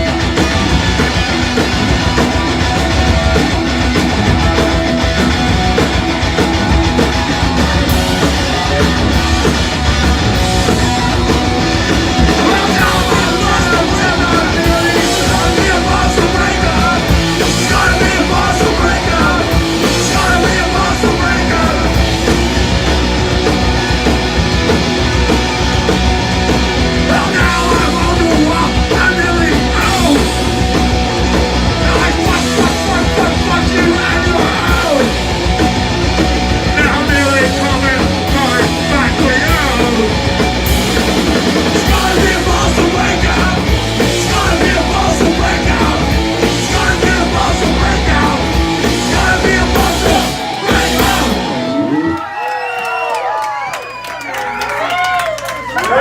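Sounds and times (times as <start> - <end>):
punk rock band playing: 0.0 - 53.7
crowd cheering: 0.0 - 56.0.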